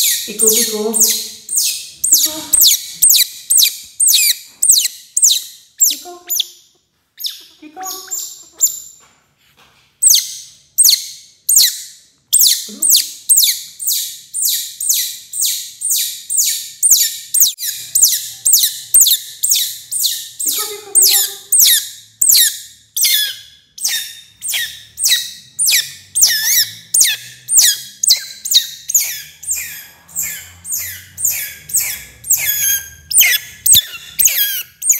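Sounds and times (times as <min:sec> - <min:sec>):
baby otter chirping: 0:00.0 - 0:06.6, 0:07.2 - 0:09.0, 0:10.0 - 0:34.9.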